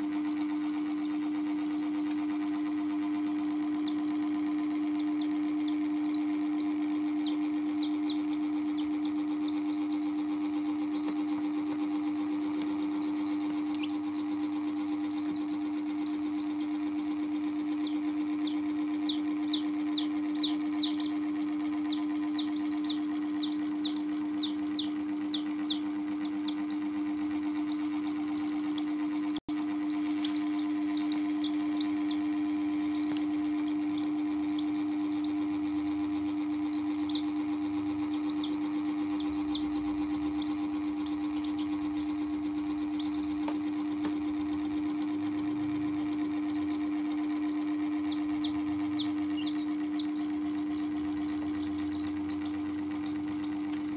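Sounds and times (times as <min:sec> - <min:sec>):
baby chicks peeping: 0:00.0 - 0:53.9
steady low hum: 0:00.0 - 0:53.9.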